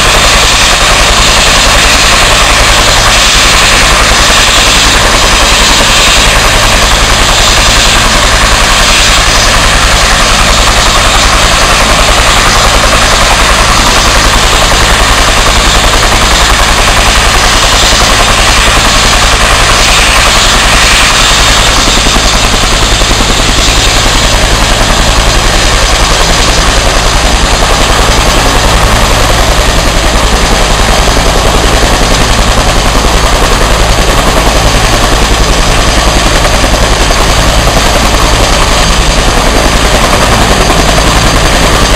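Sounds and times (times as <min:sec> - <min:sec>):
helicopter rotor chop: 0:00.0 - 0:41.9
turbine whine: 0:00.0 - 0:41.9.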